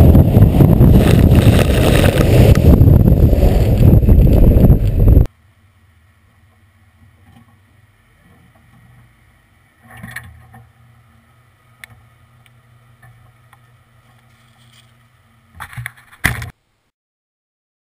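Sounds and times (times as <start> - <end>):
rustle: 0.5 - 16.9.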